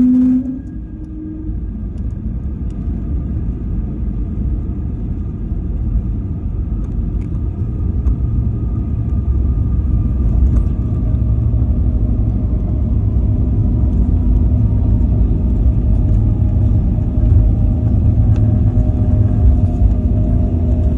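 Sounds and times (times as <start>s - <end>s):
low rumble of engines and wheels: 0.0s - 20.9s
steady engine whine: 0.0s - 20.9s.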